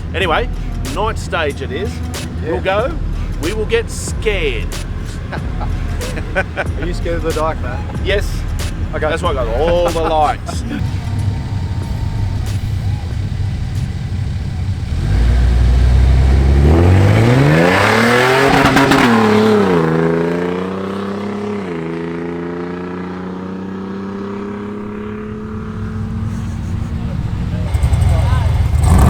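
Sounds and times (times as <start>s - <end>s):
engine accelerating hard: 0.0s - 29.0s.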